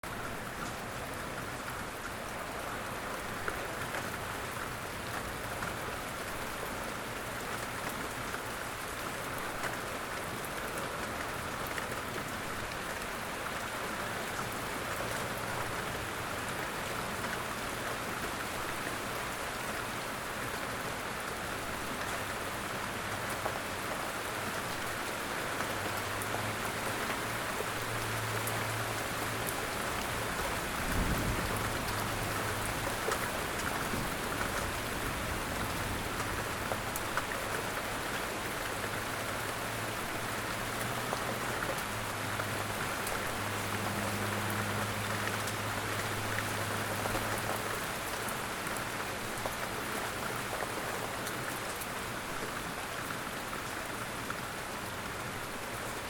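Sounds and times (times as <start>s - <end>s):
light rain on leaves: 0.0s - 56.0s.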